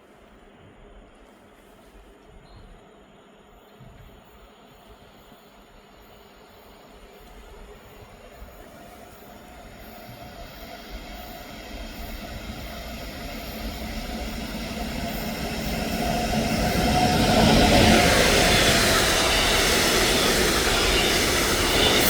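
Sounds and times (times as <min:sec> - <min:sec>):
train rumble: 0:03.5 - 0:22.0.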